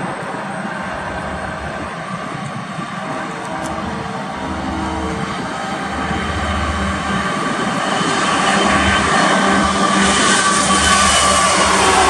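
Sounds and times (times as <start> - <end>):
diesel locomotive engines droning: 0.0 - 12.0.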